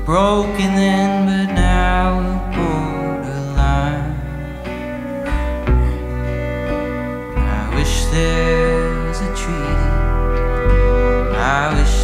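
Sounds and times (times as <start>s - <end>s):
acoustic guitar: 0.0s - 12.0s
sustained string notes: 0.0s - 12.0s.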